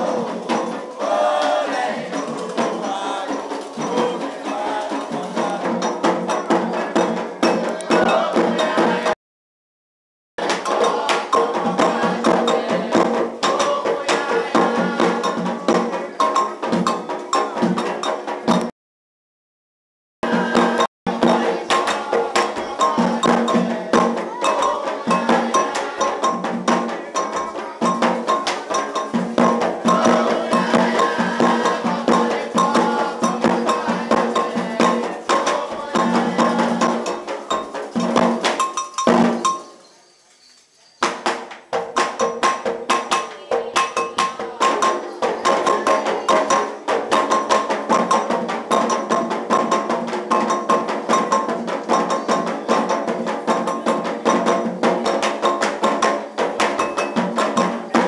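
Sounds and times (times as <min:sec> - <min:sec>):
hand drums beaten fast: 0:00.0 - 0:09.2, 0:10.4 - 0:18.7, 0:20.2 - 0:39.8, 0:41.0 - 0:58.0.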